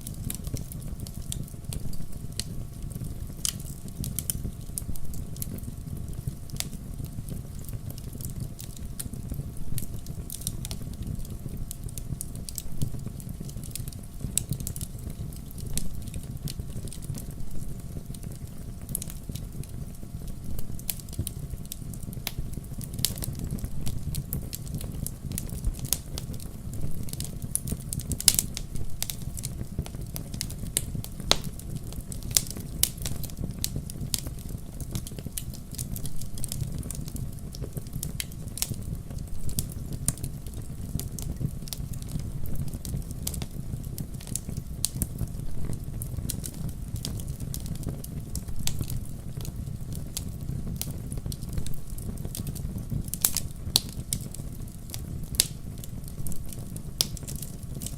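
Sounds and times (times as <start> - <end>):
fireplace fire crackling: 0.0 - 57.9.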